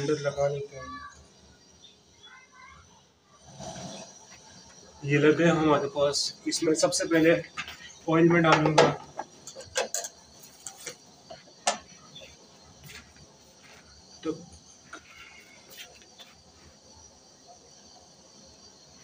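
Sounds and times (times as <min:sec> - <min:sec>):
faint high chirring: 0:00.0 - 0:19.0.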